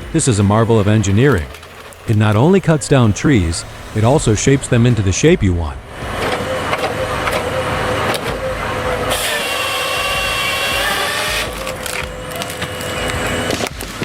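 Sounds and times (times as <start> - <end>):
wood-cutting machine motor: 0.0 - 14.0
saw cutting into wood: 0.3 - 13.8.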